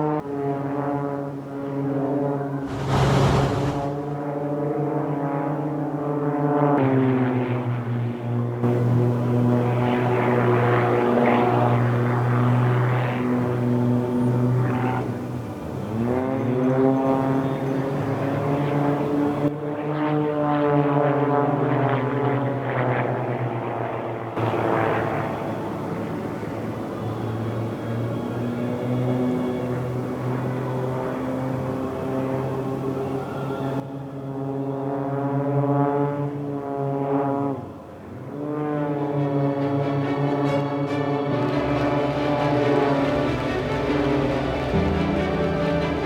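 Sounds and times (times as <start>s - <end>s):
propeller aircraft engines: 0.0s - 46.0s.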